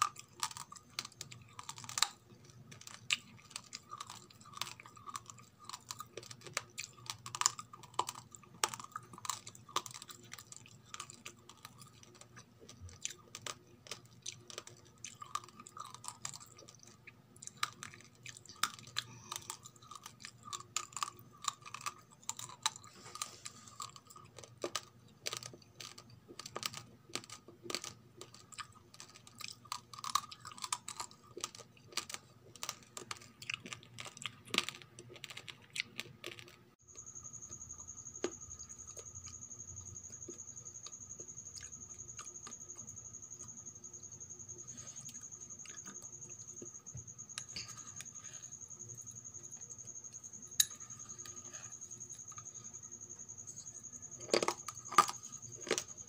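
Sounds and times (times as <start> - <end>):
rice grains crunched and chewed: 0.0 - 37.5, 38.2 - 56.0.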